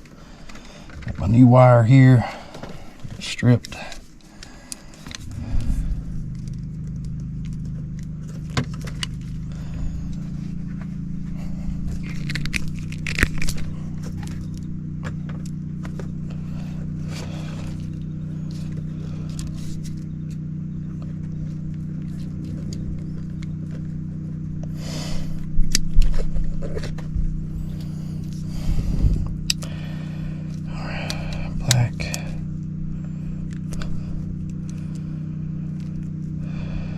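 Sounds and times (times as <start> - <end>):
low machine hum: 0.0 - 36.9.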